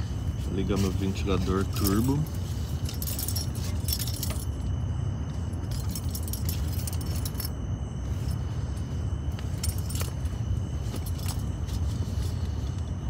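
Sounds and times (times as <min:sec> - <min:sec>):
light clinking rattles: 0:00.3 - 0:12.9.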